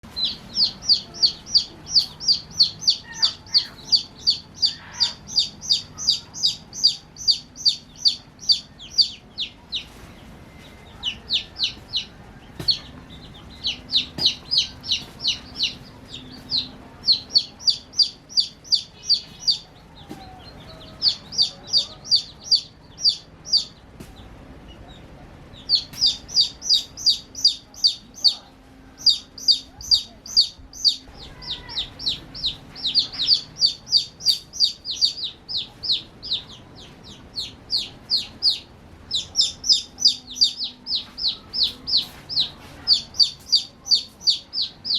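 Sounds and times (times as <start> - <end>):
baby chicks chirping: 0.0 - 44.9.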